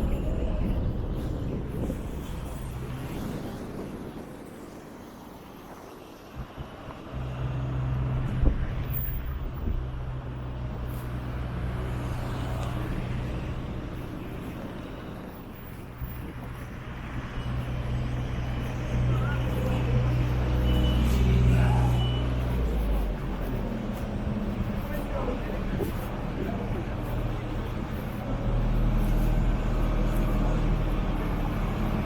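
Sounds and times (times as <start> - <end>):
low vehicle rumble: 0.0 - 32.0.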